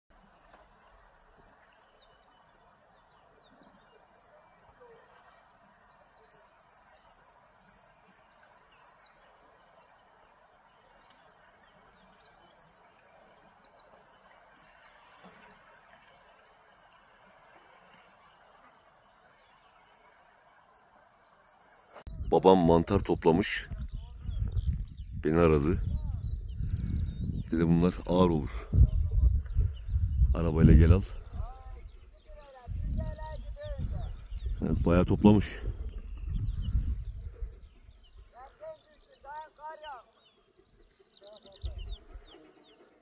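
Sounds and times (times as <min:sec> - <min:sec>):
insects trilling: 0:00.1 - 0:43.0.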